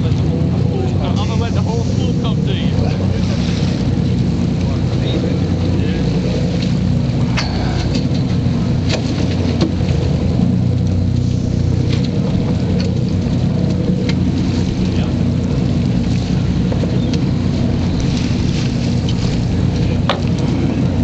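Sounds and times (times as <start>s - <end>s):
boat engine humming: 0.0s - 21.0s
sea noise: 0.0s - 21.0s
water splashes: 0.0s - 21.0s
wind: 0.0s - 21.0s.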